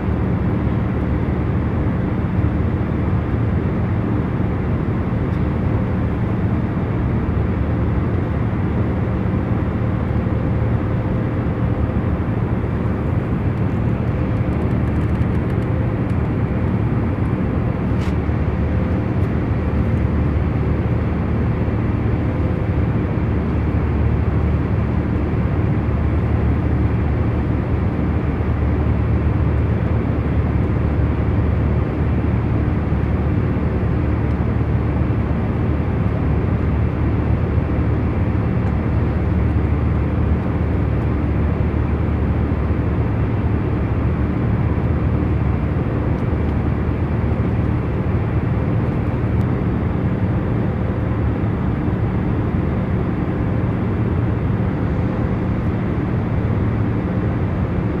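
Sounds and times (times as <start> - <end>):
airliner cabin rumble: 0.0 - 58.0
faint constant hums: 0.0 - 58.0.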